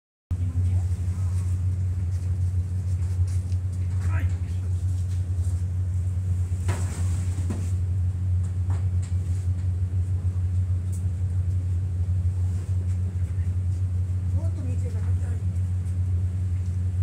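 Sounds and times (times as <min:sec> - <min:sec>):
truck engine idling: 0:00.3 - 0:17.0.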